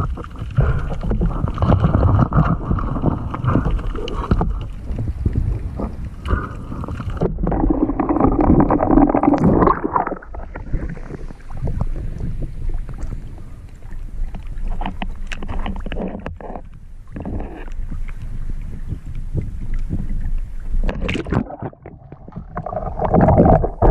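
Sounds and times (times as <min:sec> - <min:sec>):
wind noise on microphone: 0:00.0 - 0:13.6, 0:14.2 - 0:23.9
sea water sloshing and splashing: 0:00.0 - 0:23.9.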